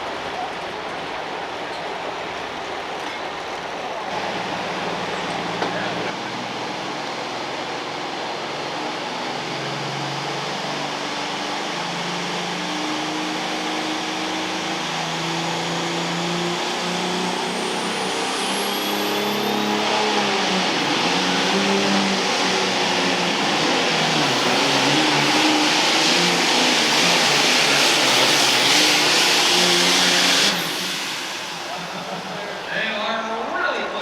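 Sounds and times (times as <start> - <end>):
diesel tractor engine under load: 2.4 - 33.1.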